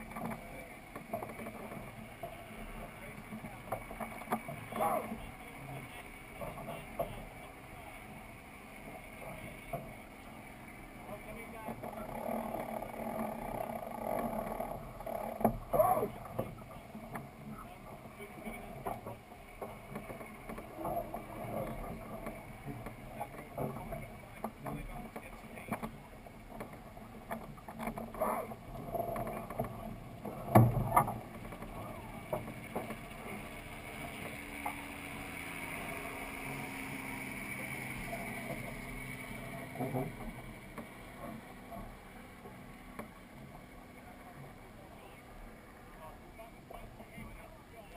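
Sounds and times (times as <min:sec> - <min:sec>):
water rushing along hull: 0:00.0 - 0:47.9
wind: 0:00.0 - 0:47.9.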